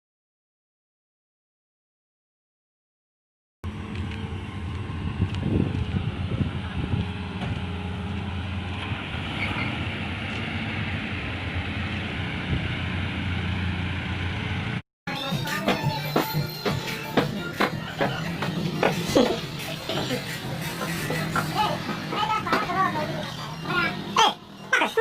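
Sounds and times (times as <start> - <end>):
vehicle engine humming: 3.6 - 25.0.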